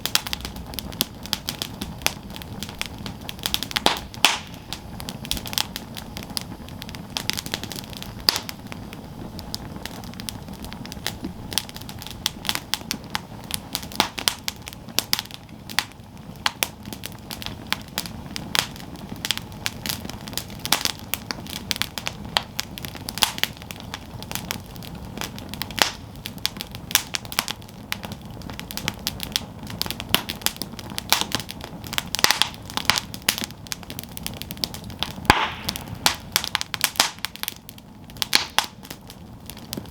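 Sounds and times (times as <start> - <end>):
low rush of flame: 0.0 - 39.9
wood crackling and popping: 0.0 - 39.9.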